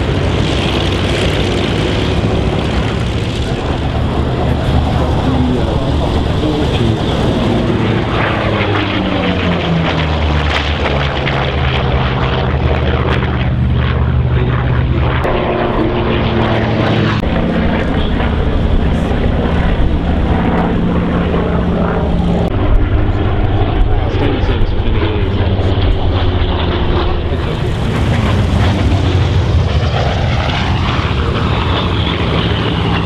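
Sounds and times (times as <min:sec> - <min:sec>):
propeller plane engine passing: 0:00.0 - 0:33.0.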